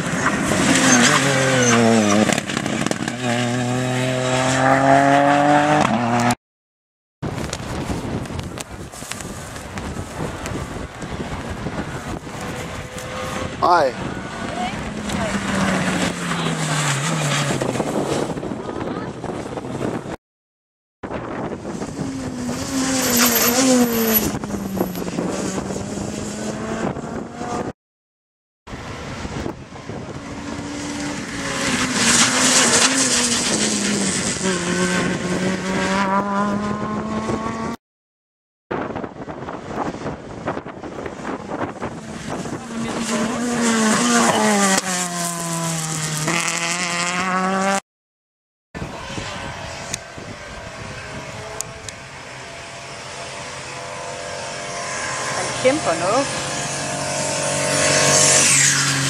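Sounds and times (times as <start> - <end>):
rally car passing at speed: 0.0 - 6.4, 9.0 - 20.0, 21.4 - 27.7, 28.8 - 37.8, 39.4 - 47.8, 48.8 - 59.0.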